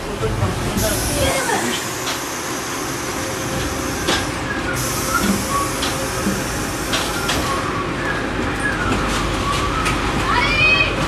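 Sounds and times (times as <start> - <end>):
train interior hiss and hum: 0.0 - 11.0.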